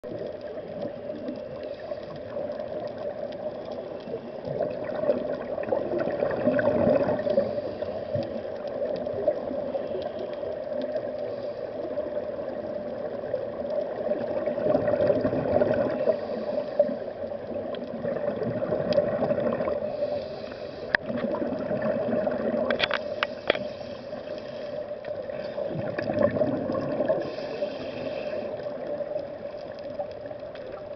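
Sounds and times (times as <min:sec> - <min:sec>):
steady underwater drone: 0:00.0 - 0:30.9
underwater regulator bubbles gurgling: 0:00.0 - 0:30.9.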